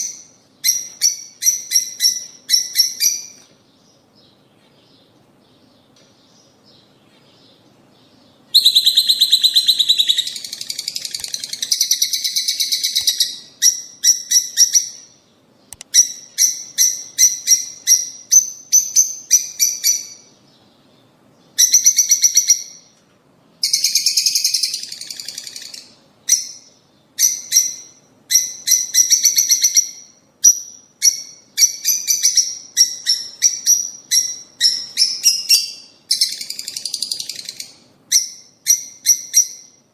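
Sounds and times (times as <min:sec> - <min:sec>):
lovebirds chirping: 0:00.0 - 0:23.0, 0:23.6 - 0:39.8.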